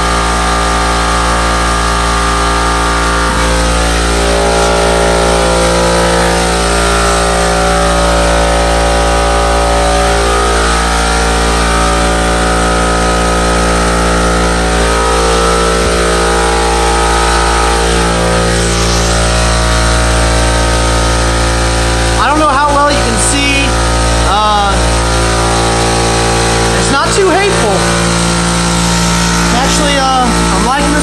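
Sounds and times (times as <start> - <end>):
motor running steadily: 0.0 - 31.0.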